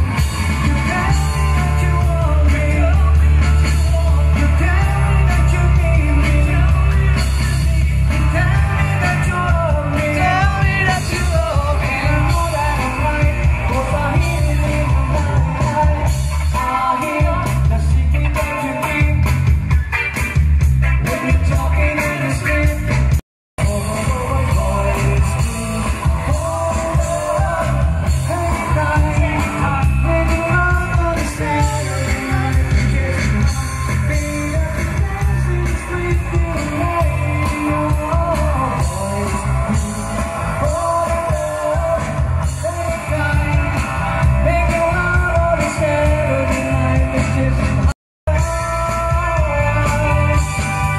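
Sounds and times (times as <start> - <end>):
person singing: 0.0 - 19.3, 23.6 - 50.9
bass line: 0.0 - 50.9
drums: 0.0 - 50.9
electric guitar: 0.0 - 50.9
keyboard: 0.0 - 50.9.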